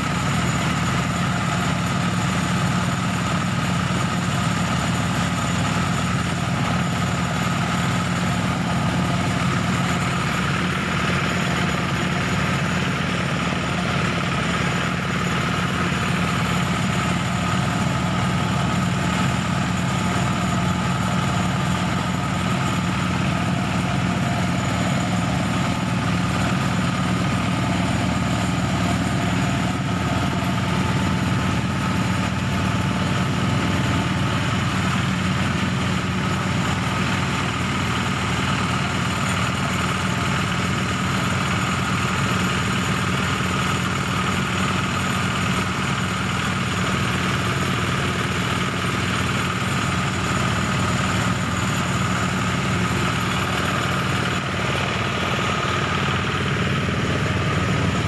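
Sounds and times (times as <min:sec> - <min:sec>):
rice thresher humming: 0:00.0 - 0:58.0.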